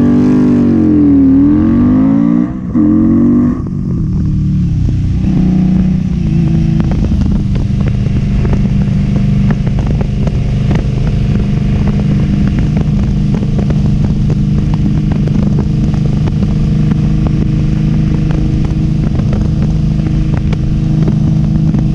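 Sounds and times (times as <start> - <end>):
motorcycle engine cruising: 0.0 - 21.9.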